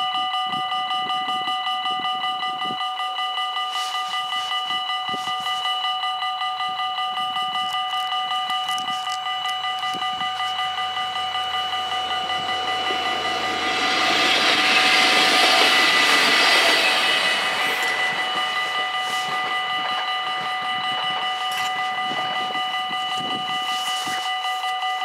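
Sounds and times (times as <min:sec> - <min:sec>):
level crossing bells ringing: 0:00.0 - 0:25.0
diesel railcar approaching: 0:03.0 - 0:24.6.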